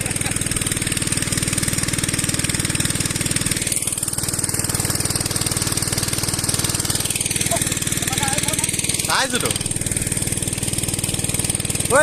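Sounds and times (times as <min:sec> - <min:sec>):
pump engine knocking: 0:00.0 - 0:12.0.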